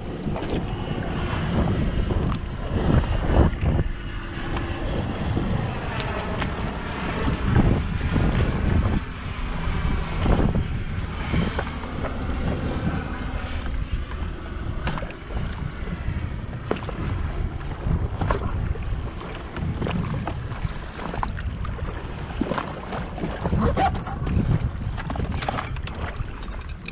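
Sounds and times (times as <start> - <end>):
jet ski engine running: 0.0 - 26.9
wind buffeting microphone: 0.0 - 26.9.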